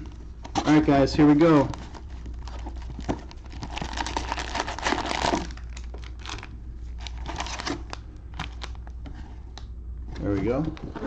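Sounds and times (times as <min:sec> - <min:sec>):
plastic shrink wrap crinkling and tearing: 0:00.0 - 0:09.0.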